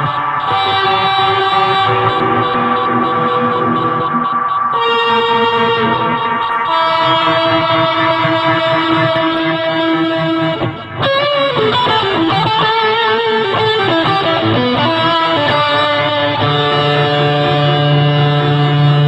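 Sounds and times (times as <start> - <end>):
electric guitar with fuzz and reverb: 0.0 - 19.0.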